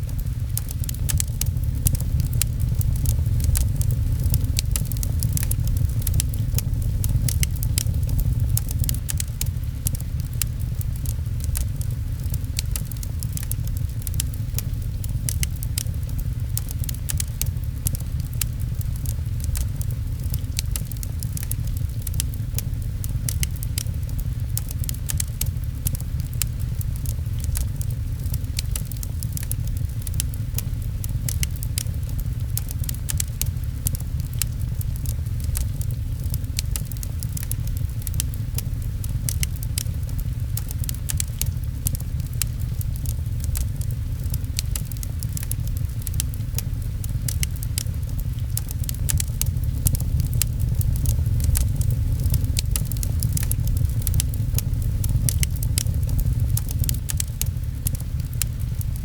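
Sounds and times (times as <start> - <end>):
fireplace crackling and popping: 0.0 - 59.0
low rumble: 0.0 - 59.0
rain patter: 0.0 - 59.0.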